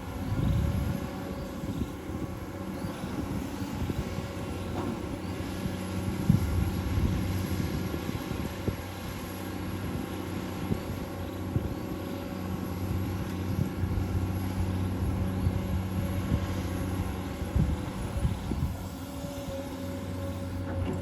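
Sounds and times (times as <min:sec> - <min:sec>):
excavator diesel engine humming: 0:00.0 - 0:21.0.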